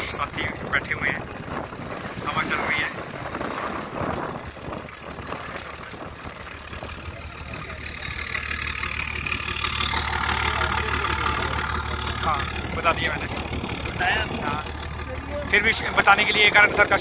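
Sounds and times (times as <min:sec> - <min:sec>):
motorboat engine humming: 0:00.0 - 0:17.0
water noise: 0:00.0 - 0:17.0
wind: 0:00.0 - 0:17.0.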